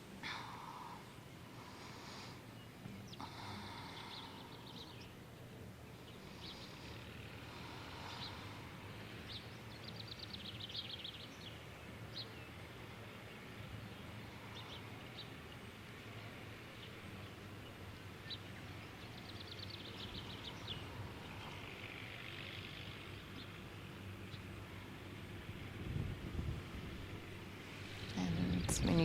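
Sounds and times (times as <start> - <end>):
birds chirping: 0.0 - 29.0
faint low hum: 0.0 - 29.0.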